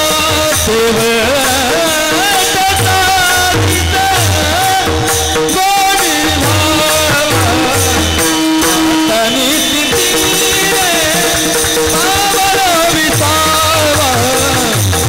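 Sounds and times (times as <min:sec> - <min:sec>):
hand cymbals struck rhythmically: 0:00.0 - 0:15.0
men singing in unison: 0:00.0 - 0:15.0.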